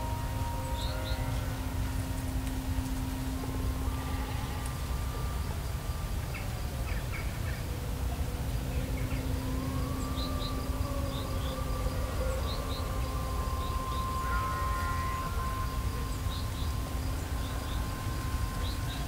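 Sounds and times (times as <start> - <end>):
insect buzzing: 0.0 - 19.0.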